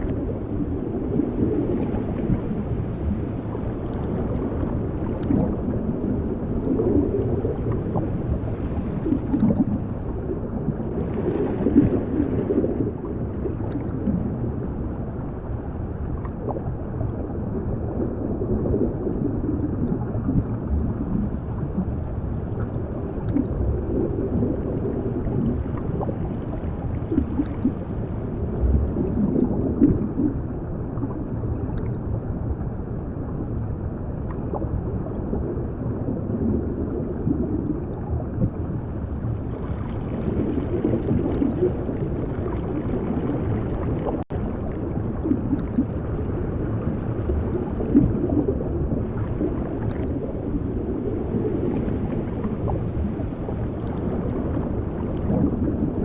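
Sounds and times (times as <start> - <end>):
bubbles gurgling: 0.0 - 56.0
muffled underwater rumble: 0.0 - 56.0.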